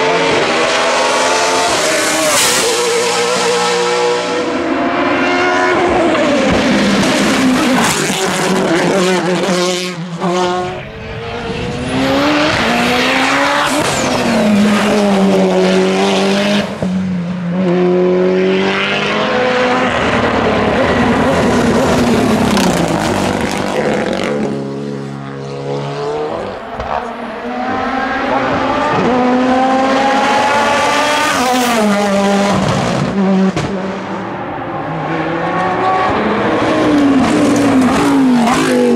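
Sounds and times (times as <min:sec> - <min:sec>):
race car engines at full throttle: 0:00.0 - 0:38.9.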